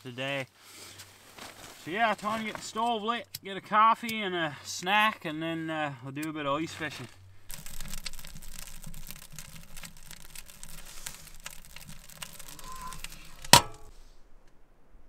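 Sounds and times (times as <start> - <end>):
kindling crackling in stove: 0.6 - 5.4, 6.1 - 15.0.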